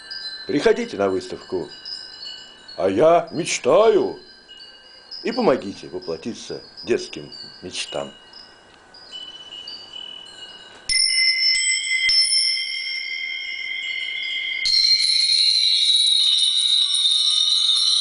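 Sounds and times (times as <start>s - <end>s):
metal tubes ringing: 0.0s - 18.0s.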